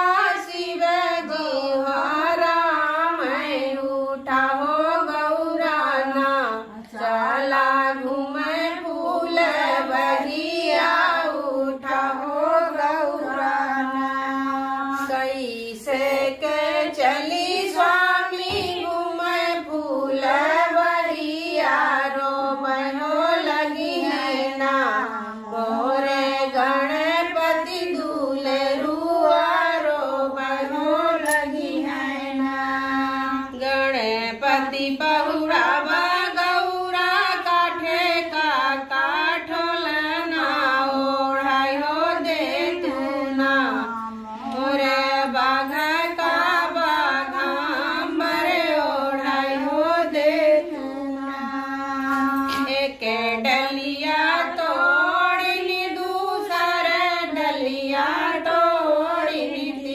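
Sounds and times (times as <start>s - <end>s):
women singing folk song: 0.0s - 59.9s.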